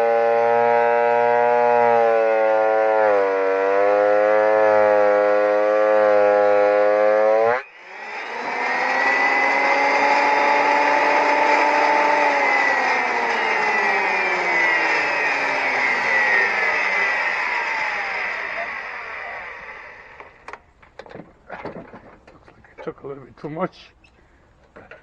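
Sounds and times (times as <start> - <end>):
planer motor whining: 0.0 - 20.6.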